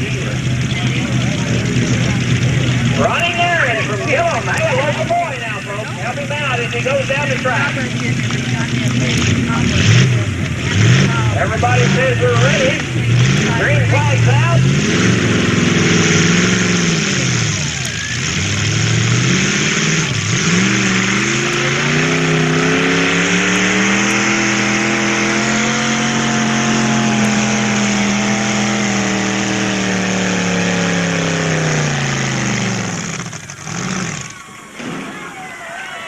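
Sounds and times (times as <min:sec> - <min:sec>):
truck engine at full throttle: 0:00.0 - 0:36.0.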